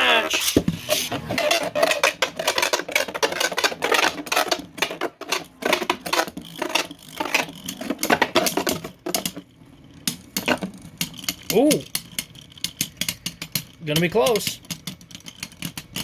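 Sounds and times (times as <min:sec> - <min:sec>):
spinning tops clacking and colliding: 0:00.4 - 0:16.0.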